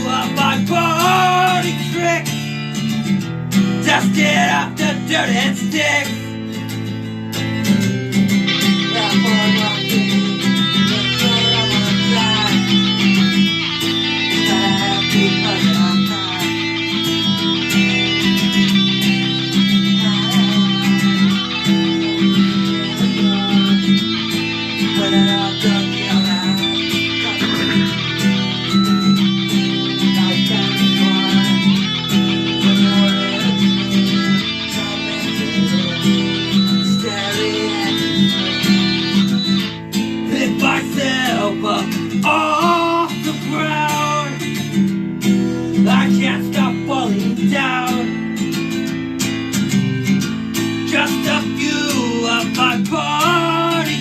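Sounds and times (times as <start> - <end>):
plucked and strummed guitar: 0.0 - 54.0.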